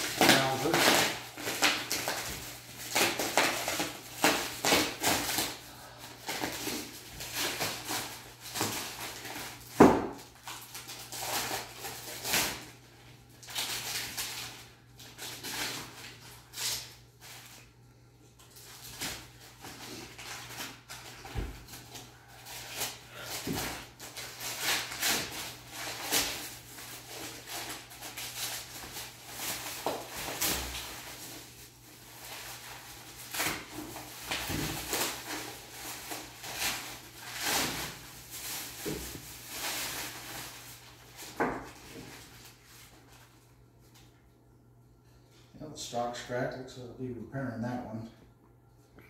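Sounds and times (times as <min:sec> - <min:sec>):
paper and plastic wrap crinkling: 0:00.0 - 0:44.2.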